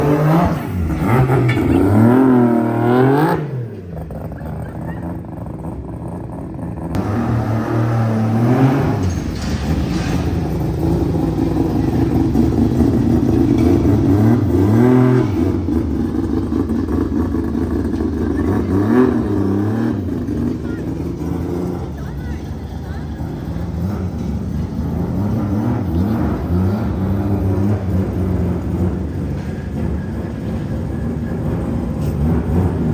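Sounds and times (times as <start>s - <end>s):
rotary engine idling and revving: 0.0s - 32.9s.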